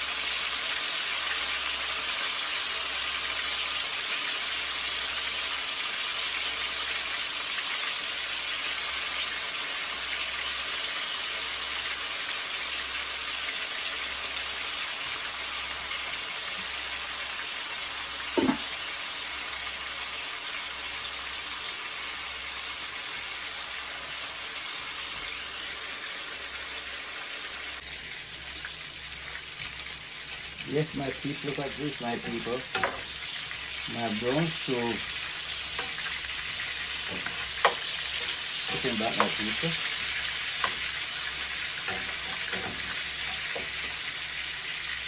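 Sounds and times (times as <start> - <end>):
chicken sizzling in hot oil: 0.0 - 45.0.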